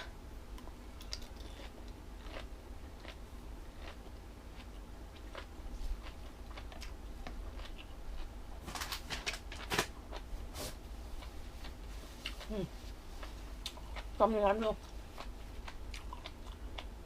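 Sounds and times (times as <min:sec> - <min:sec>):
crunchy food chewing: 0:00.6 - 0:10.3, 0:11.1 - 0:17.0.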